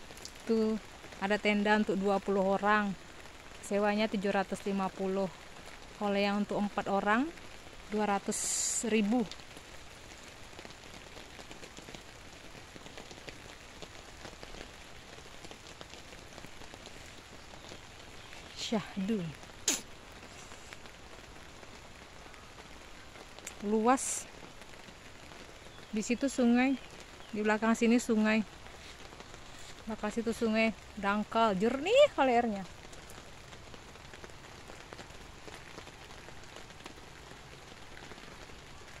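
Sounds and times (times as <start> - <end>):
rain patter on tarp: 0.0 - 39.0.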